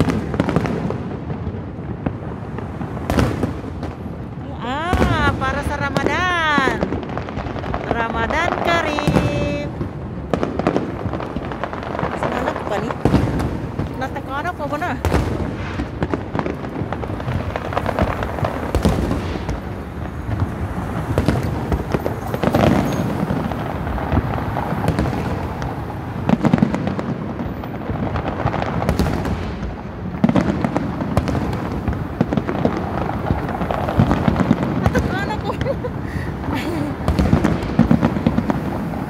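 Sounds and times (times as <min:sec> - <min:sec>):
fireworks bangs and crackling: 0:00.0 - 0:39.0
fireworks booms: 0:00.0 - 0:39.0.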